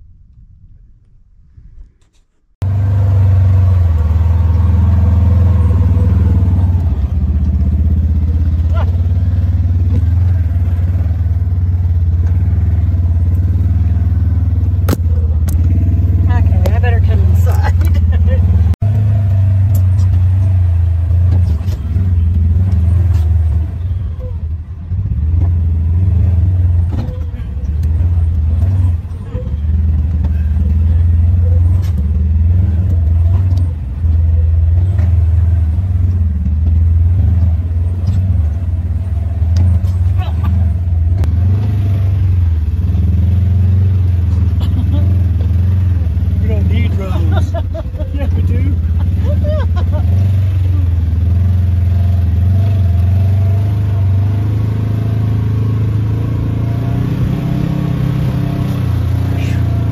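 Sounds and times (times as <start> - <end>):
off-road vehicle engine running: 2.6 - 59.9.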